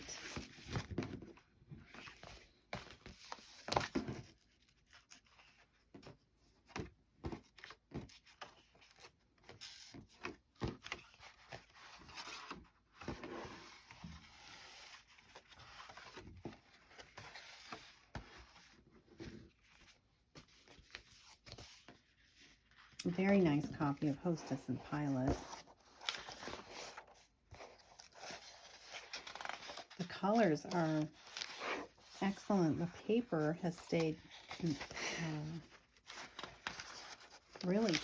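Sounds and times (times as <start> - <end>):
paper rustling: 7.6 - 38.0.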